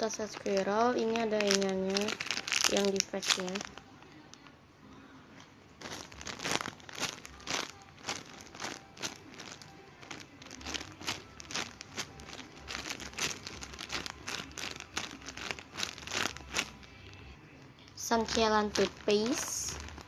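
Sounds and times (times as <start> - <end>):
plastic packaging crinkling: 0.0 - 4.5, 5.8 - 17.1, 17.9 - 20.0.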